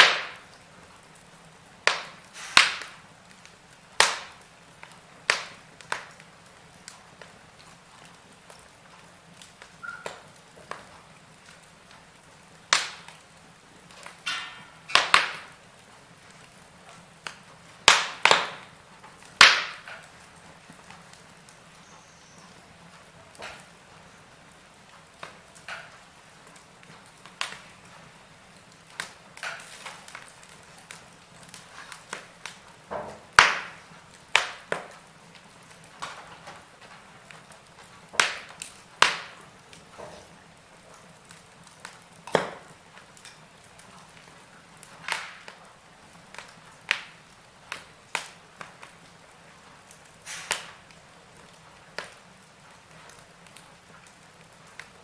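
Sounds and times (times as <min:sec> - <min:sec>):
faint steady hiss: 0:00.0 - 0:55.0
wood fire crackling and popping: 0:00.0 - 0:55.0.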